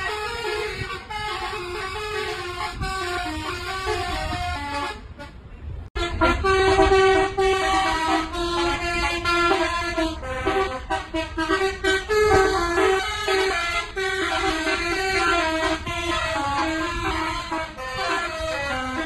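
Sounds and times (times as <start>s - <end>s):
multi-tone air horn melody: 0.0s - 19.0s.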